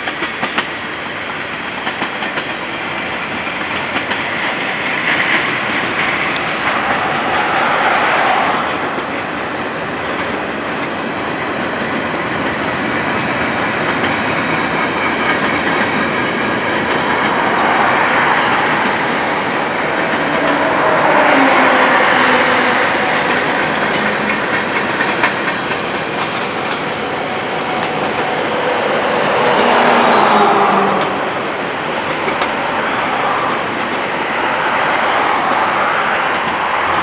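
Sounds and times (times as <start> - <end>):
freight train wheels rolling on rails: 0.0 - 37.0.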